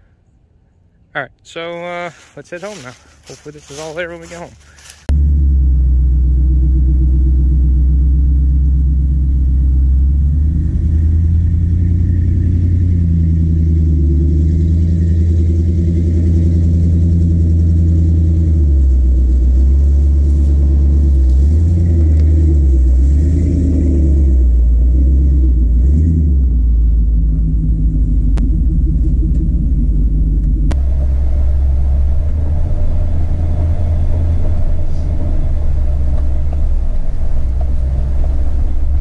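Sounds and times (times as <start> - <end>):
truck engine drone: 0.0 - 39.0.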